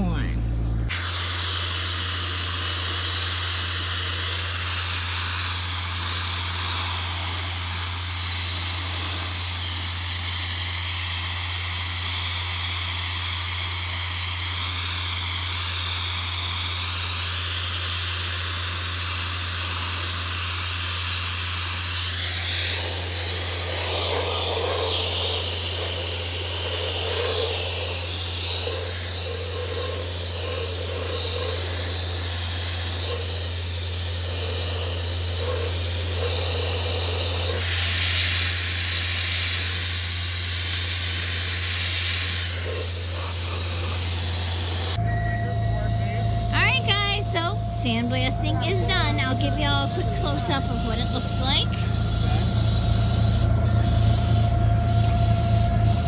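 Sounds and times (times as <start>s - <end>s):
steady low hum: 0.0s - 56.0s
sandblasting hiss: 0.9s - 56.0s.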